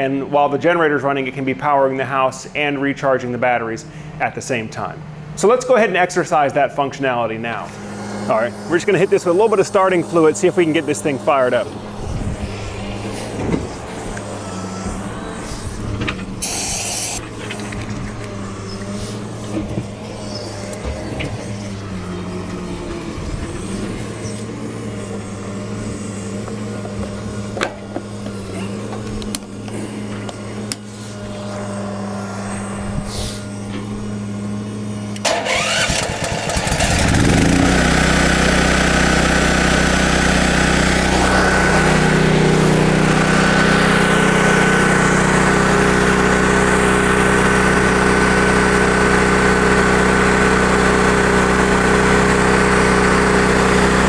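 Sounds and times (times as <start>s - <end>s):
high whine: 0.1s - 54.0s
portable generator engine running: 3.8s - 54.0s.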